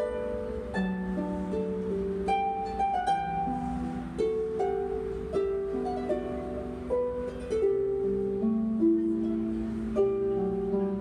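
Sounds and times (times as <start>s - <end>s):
harp playing: 0.0s - 11.0s.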